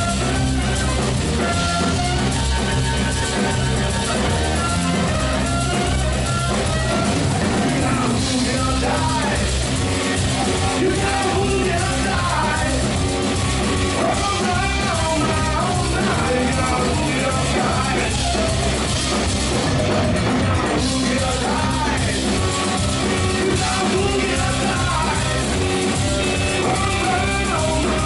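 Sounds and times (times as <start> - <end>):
drum kit: 0.0 - 28.0
electric bass: 0.0 - 28.0
electric guitar: 0.0 - 28.0.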